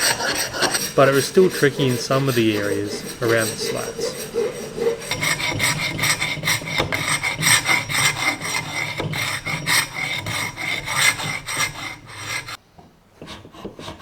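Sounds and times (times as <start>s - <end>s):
scraper blade scraping wood: 0.0s - 12.6s.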